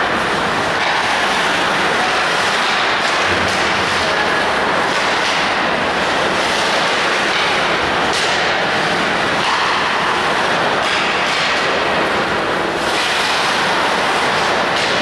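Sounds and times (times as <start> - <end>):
ice rink crowd din: 0.0 - 15.0.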